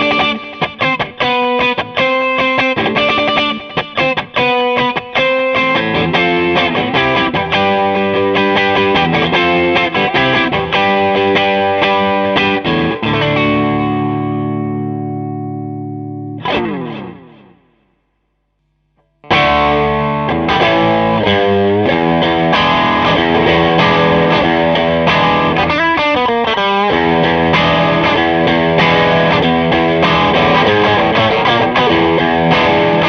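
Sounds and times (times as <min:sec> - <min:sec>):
overdriven electric guitar chords: 0:00.0 - 0:33.0.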